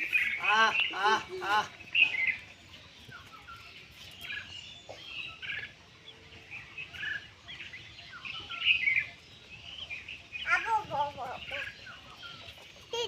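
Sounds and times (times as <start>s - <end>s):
bulbuls chirping: 0.0s - 13.0s.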